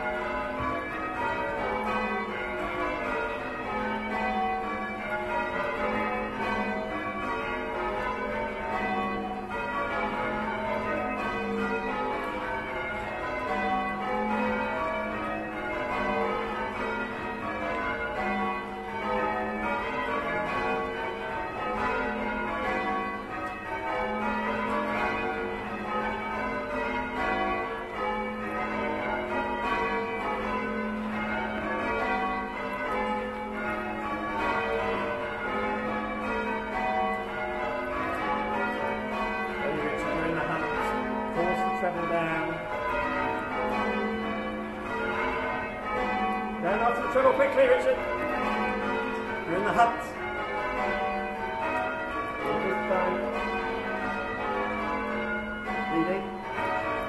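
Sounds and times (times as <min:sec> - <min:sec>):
church bells ringing: 0:00.0 - 0:57.0.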